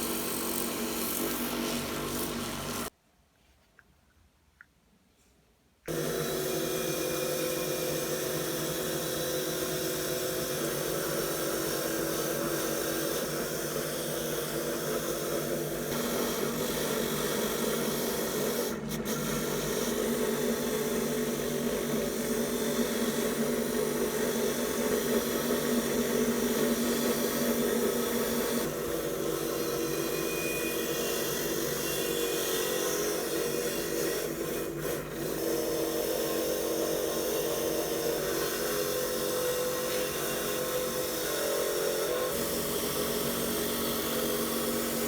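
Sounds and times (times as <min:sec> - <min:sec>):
power tool grinding metal: 0:00.0 - 0:02.9, 0:05.9 - 0:45.0.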